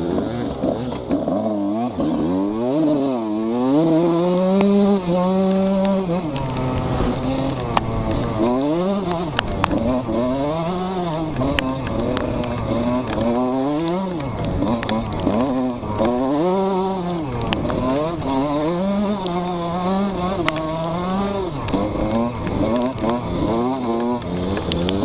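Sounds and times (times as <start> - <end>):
motocross engines revving: 0.0 - 25.0.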